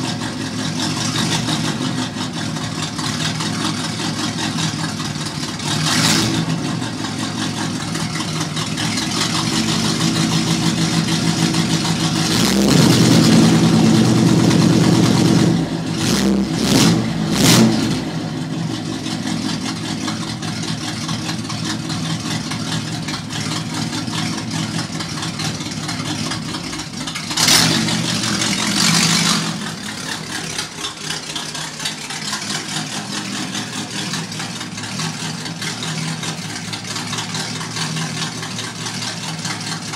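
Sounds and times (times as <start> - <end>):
car engine burbling and revving: 0.0 - 39.9.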